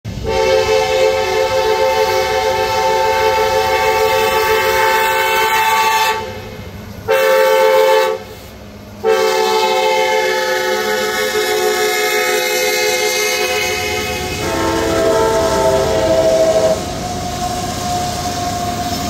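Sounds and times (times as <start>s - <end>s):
locomotive air horn blasts: 0.2s - 18.2s.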